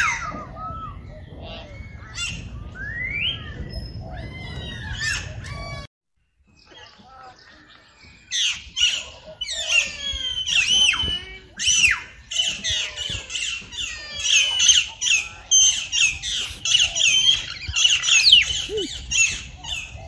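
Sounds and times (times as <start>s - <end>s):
birds chirping and squawking: 0.0s - 20.0s.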